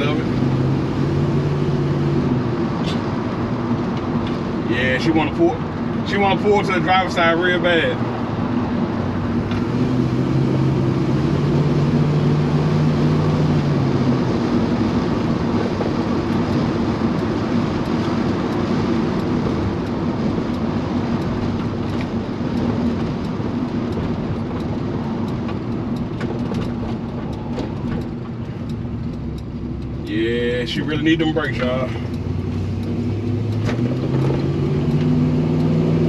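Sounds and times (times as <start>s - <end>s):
pickup engine running: 0.0s - 36.0s
road noise: 0.0s - 36.0s.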